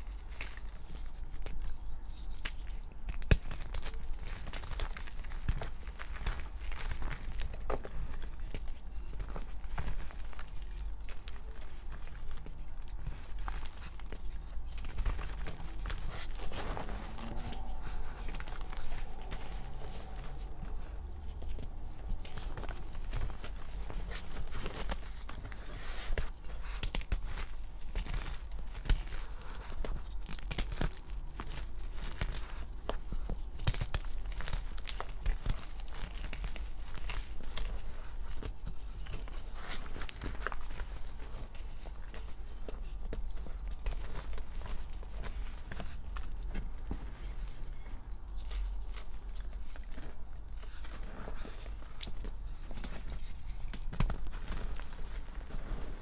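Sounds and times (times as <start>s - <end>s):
chalk crunching and snapping: 0.0s - 56.0s.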